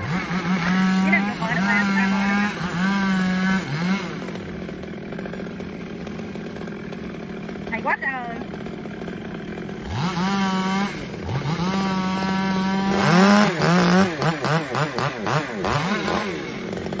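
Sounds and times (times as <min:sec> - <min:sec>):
chainsaw revving and cutting: 0:00.0 - 0:17.0.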